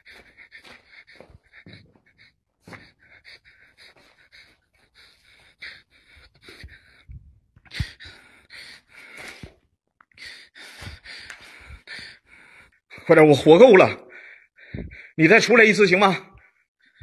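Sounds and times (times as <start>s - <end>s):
man breathing heavily: 0.0s - 13.2s, 14.0s - 15.2s.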